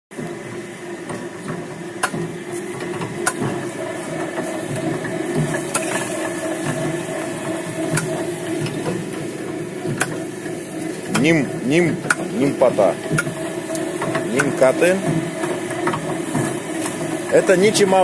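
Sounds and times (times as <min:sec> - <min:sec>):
chopping machine humming: 0:00.1 - 0:18.0.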